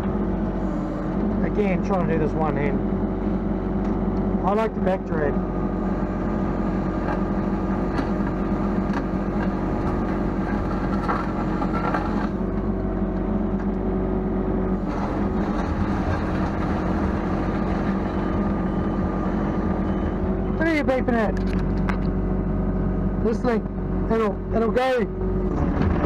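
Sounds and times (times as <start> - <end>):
hydraulics working: 0.0 - 22.5
excavator diesel engine running: 0.0 - 26.0.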